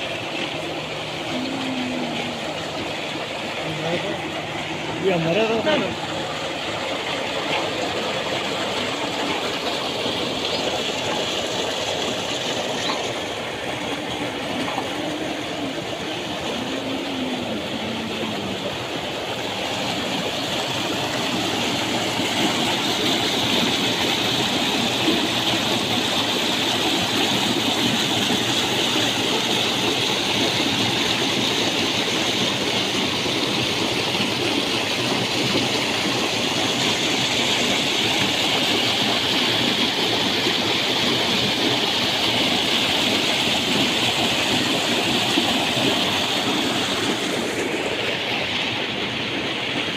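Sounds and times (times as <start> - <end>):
water gushing into a concrete tank: 0.0 - 49.9.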